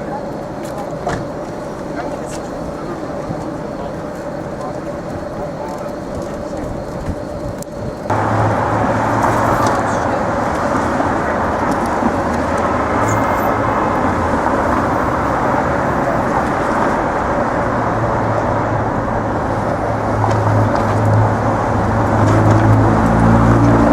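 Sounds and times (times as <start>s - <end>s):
low engine rumble: 0.0s - 23.9s
vehicles passing: 0.0s - 23.9s.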